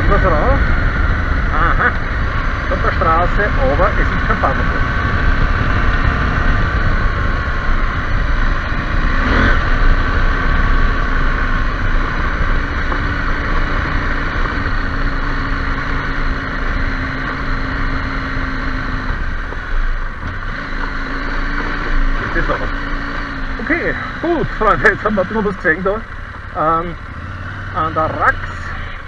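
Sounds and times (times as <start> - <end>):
motorcycle engine running: 0.0 - 29.0
wind rumble: 0.0 - 29.0.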